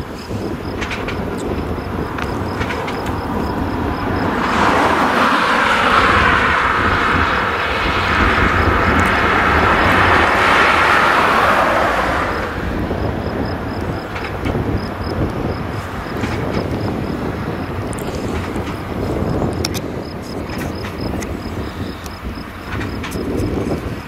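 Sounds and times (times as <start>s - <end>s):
rushing sound passing by: 0.0s - 21.9s
tractor and baler running: 0.0s - 24.0s.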